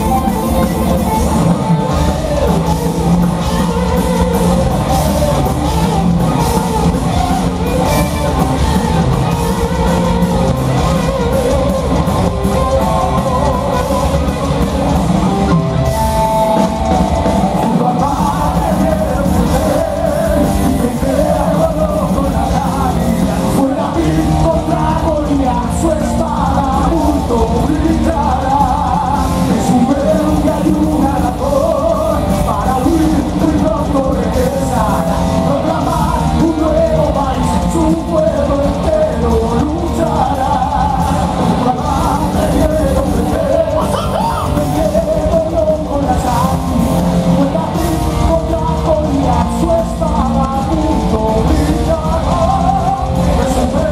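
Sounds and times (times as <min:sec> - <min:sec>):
live heavy metal band: 0:00.0 - 0:53.9
man singing: 0:00.0 - 0:53.9.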